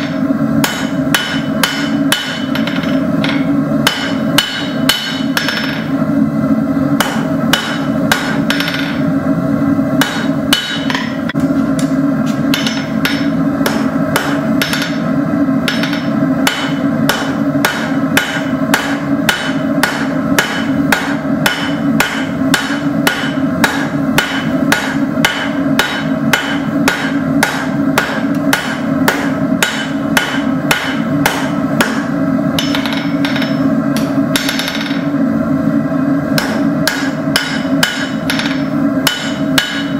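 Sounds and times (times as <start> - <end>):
hammer striking steel on anvil: 0.0 - 5.9, 7.0 - 9.0, 10.0 - 35.1, 36.3 - 39.9.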